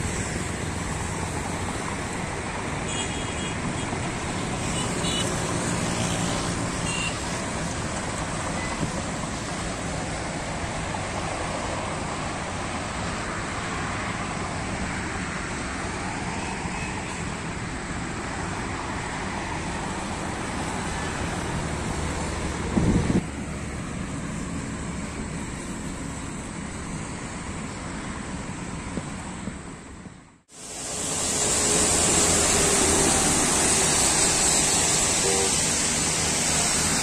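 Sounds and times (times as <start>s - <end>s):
road traffic rushing: 0.0s - 37.0s.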